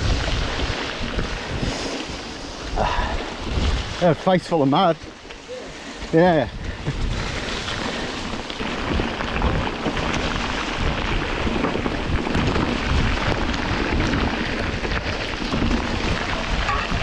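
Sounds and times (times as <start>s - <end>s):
rain: 0.0s - 17.0s
tyres on wet muddy trail: 0.0s - 17.0s
wind buffeting microphone: 0.0s - 17.0s.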